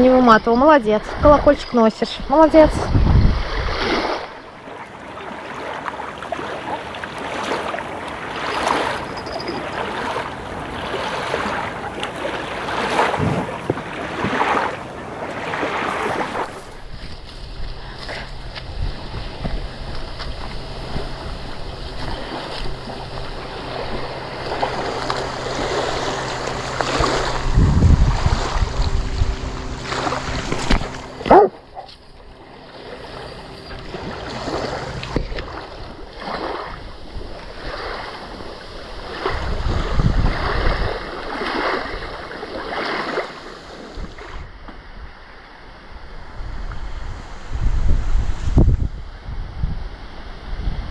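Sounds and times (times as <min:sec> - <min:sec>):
wind gusting on microphone: 0:00.0 - 0:04.5, 0:08.3 - 0:50.9
small waves lapping: 0:00.0 - 0:45.4.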